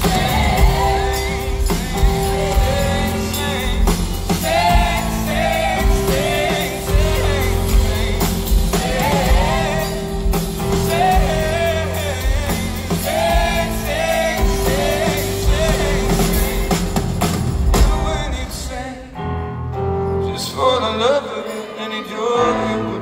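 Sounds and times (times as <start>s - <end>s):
man singing into microphone: 0.0s - 17.0s, 20.2s - 23.0s
live band playing: 0.0s - 21.9s.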